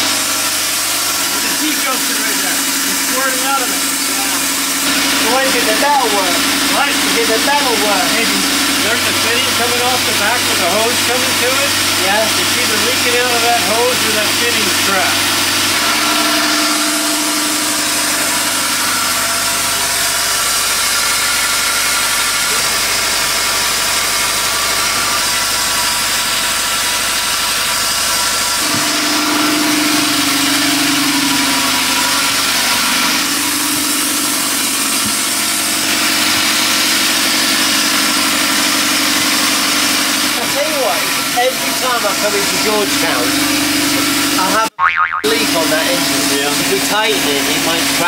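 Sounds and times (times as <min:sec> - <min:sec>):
diesel engine running: 0:00.0 - 0:44.6.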